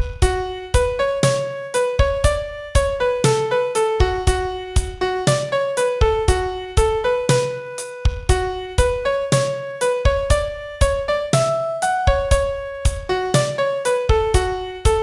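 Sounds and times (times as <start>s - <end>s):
low piano notes: 0.0s - 15.0s
piano melody: 0.0s - 15.0s.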